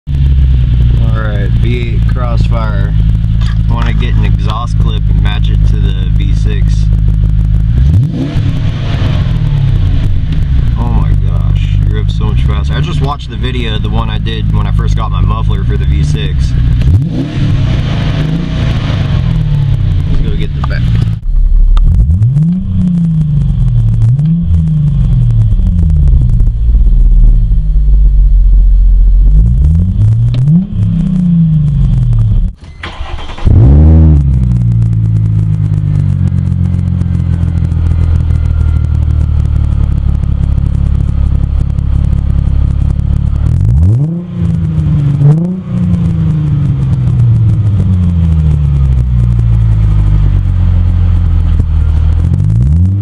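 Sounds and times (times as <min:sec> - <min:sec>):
car engine idling: 0:00.0 - 0:53.0
car engine revving: 0:00.1 - 0:53.0.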